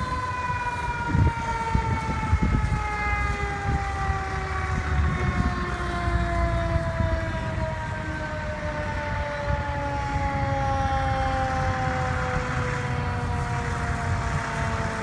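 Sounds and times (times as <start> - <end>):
siren winding down: 0.0 - 15.0.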